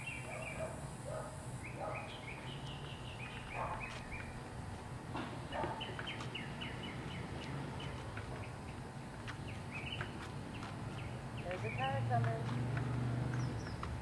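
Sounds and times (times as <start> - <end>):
songbirds chirping: 0.0 - 14.0
steady low hum: 0.0 - 14.0.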